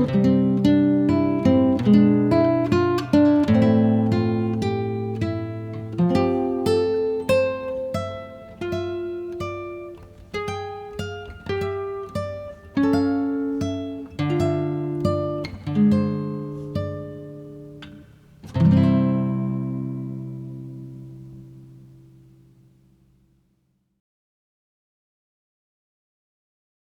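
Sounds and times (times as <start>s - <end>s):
acoustic guitar picking: 0.0s - 22.9s.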